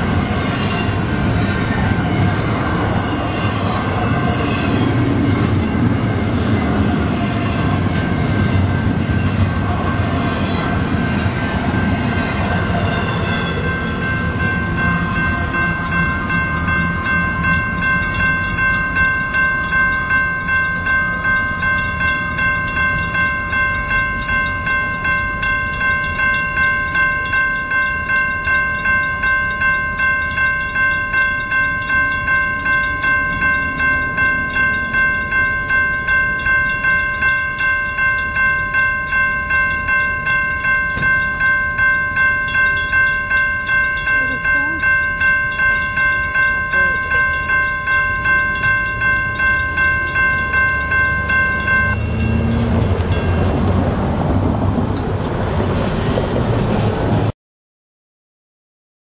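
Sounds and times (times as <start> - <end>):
crossing bell ringing: 0.0 - 57.3
freight train rumbling: 0.0 - 57.3.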